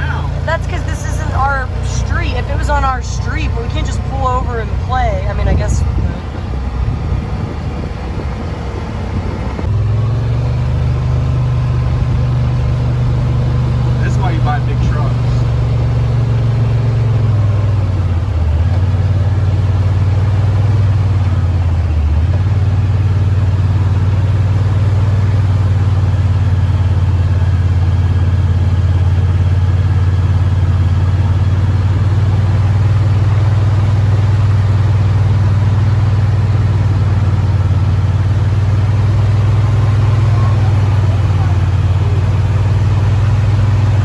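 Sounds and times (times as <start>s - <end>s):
utility vehicle engine running: 0.0s - 44.0s.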